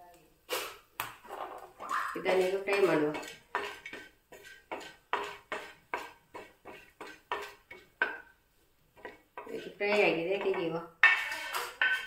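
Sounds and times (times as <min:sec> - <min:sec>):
wooden spatula scraping iron pan: 0:01.3 - 0:08.3, 0:08.9 - 0:12.0.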